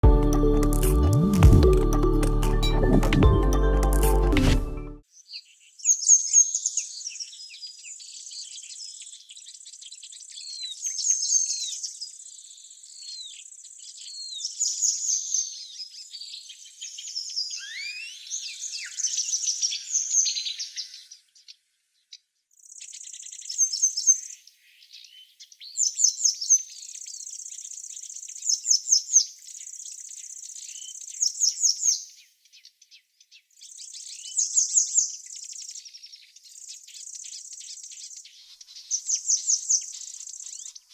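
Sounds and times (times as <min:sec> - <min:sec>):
songbirds chirping and trilling: 0:05.0 - 0:40.9.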